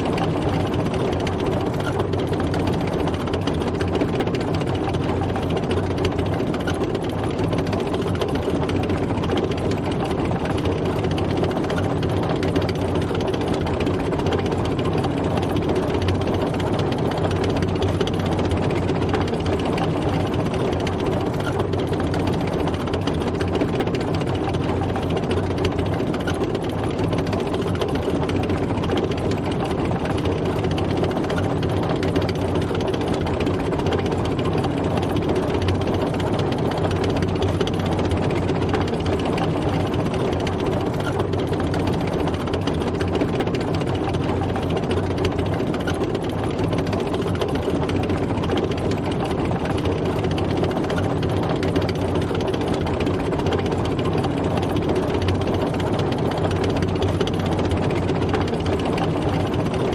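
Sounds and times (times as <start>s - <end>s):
tank engine rumbling: 0.0s - 59.9s.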